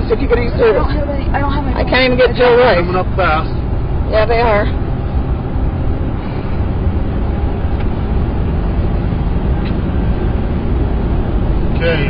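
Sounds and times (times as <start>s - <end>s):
pickup truck driving from inside cab: 0.0s - 12.0s.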